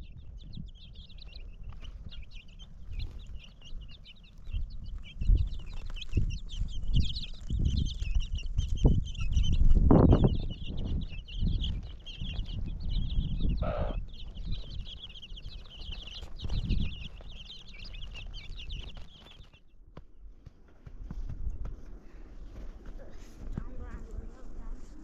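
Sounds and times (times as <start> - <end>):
birds chirping in chorus: 0.0 - 20.3.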